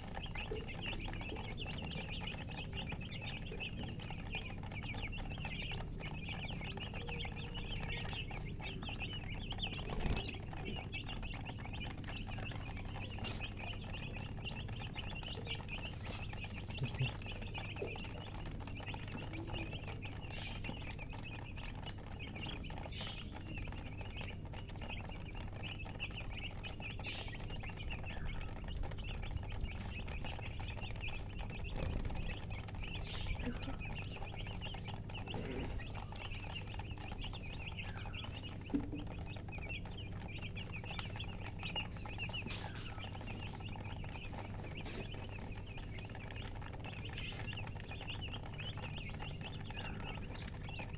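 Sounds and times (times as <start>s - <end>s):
chicks peeping: 0.0s - 50.9s
lower bird calls: 0.0s - 50.9s.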